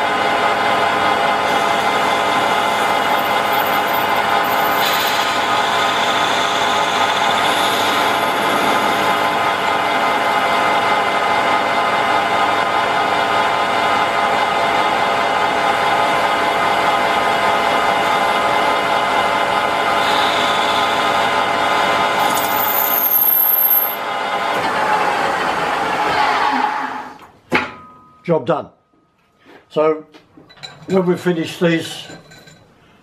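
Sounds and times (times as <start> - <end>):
metal lathe humming and whining: 0.0 - 27.1.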